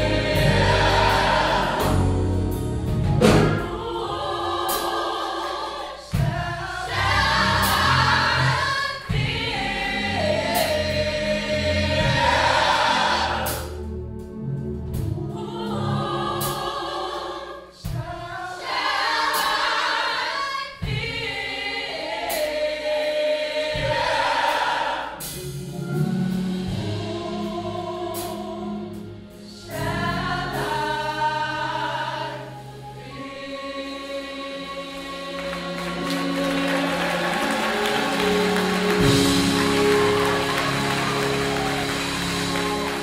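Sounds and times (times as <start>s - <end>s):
choir singing in harmony: 0.0s - 43.0s.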